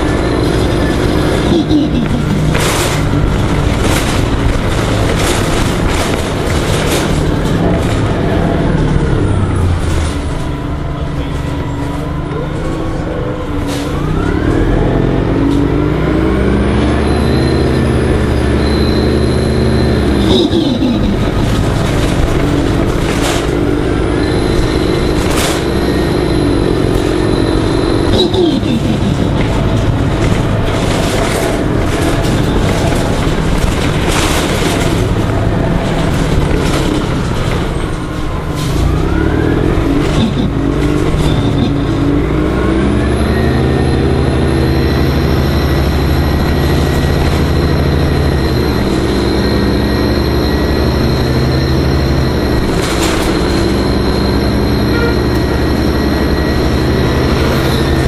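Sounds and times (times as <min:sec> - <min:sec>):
bus engine accelerating: 0:00.0 - 0:58.0
high engine whine: 0:00.0 - 0:58.0.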